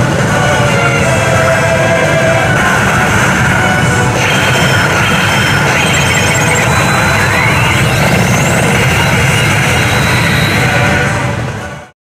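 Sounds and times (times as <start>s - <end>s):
dense din of gaming parlour: 0.0s - 11.9s
slot machine sound effects: 0.8s - 11.2s
electronic rising pitch sweep: 1.0s - 11.1s.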